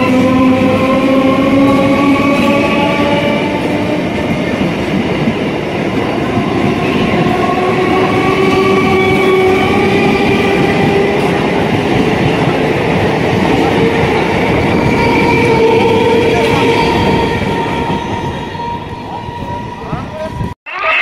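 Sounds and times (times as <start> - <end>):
wheels rumbling on rails: 0.0 - 20.6.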